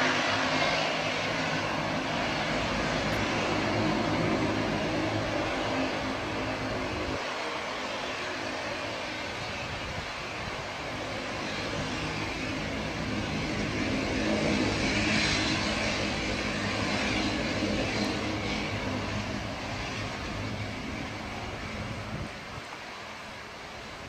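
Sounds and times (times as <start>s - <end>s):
turboprop engines humming: 0.0s - 24.0s.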